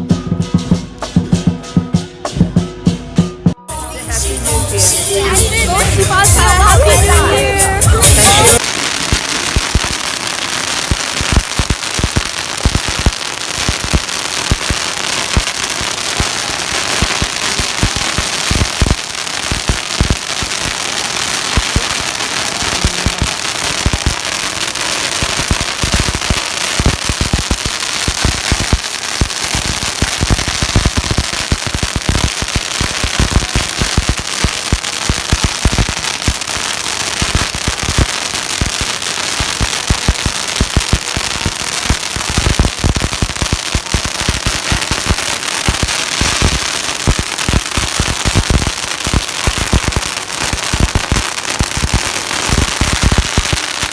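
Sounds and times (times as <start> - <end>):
firecracker bangs: 3.6 - 53.9
firecrackers crackling: 3.7 - 53.9.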